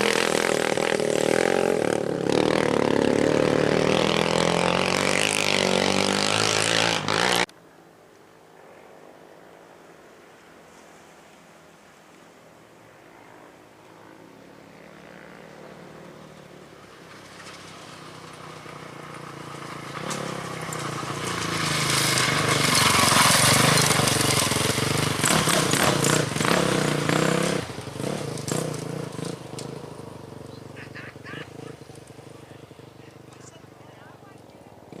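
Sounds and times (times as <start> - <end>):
off-road motorbike engine passing: 0.0 - 7.5, 8.6 - 35.0.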